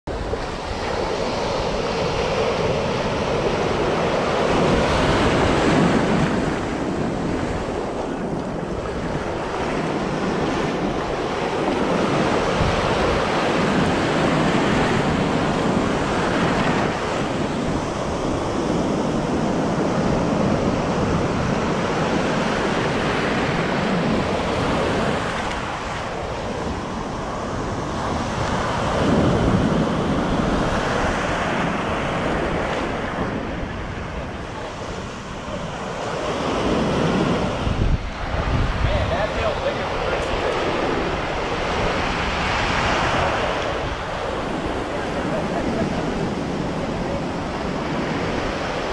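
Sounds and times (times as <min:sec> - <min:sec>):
ocean surf breaking: 0:00.1 - 0:48.9.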